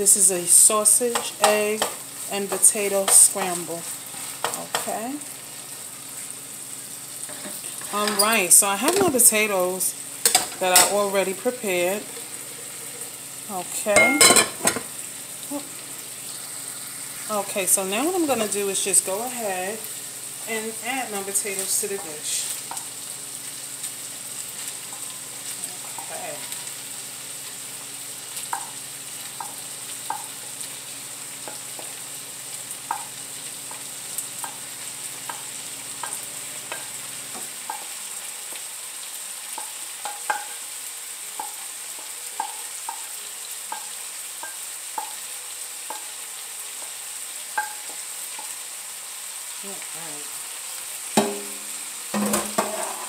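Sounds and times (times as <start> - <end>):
sausage sizzling in a frying pan: 0.0 - 53.0.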